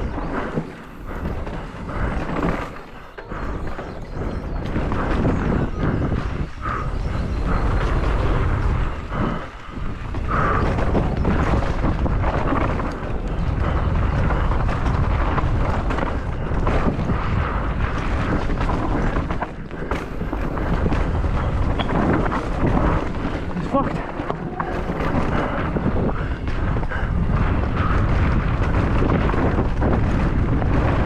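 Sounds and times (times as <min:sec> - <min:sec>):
bike rattling and knocking: 0:00.0 - 0:31.0
wind buffeting microphone: 0:00.0 - 0:31.0.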